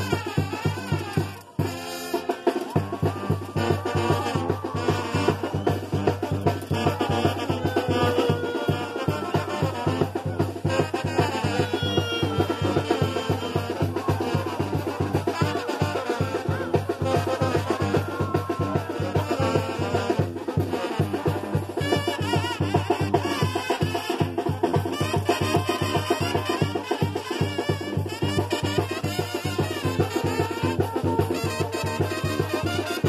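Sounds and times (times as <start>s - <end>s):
brass band playing dance music: 0.0s - 33.0s.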